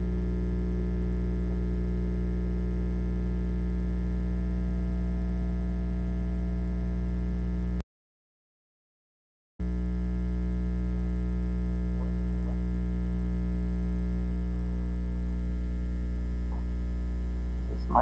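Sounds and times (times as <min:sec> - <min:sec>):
electrical mains hum: 0:00.0 - 0:07.8, 0:09.6 - 0:18.0.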